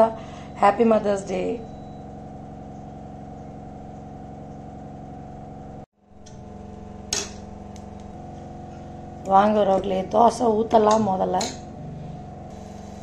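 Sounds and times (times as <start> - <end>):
electric appliance hum: 0.0 - 13.0.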